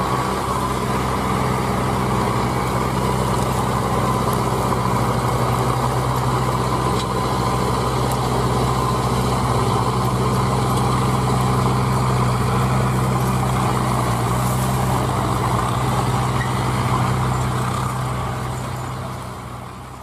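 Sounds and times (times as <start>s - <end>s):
diesel engines running: 0.0s - 20.0s.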